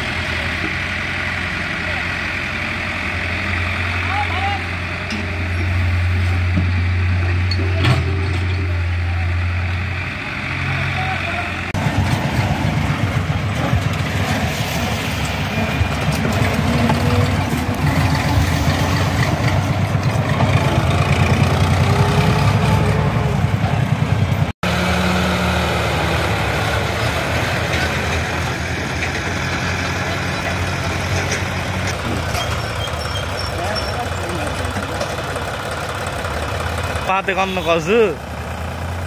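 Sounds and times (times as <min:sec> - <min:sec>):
tractor diesel engine chugging: 0:00.0 - 0:39.0.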